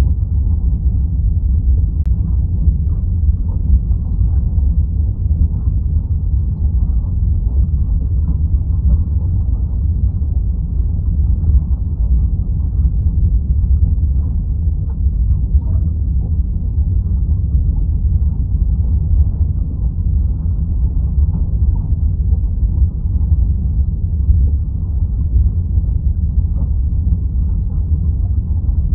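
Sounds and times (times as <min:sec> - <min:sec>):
underwater deep rumble: 0:00.0 - 0:28.9.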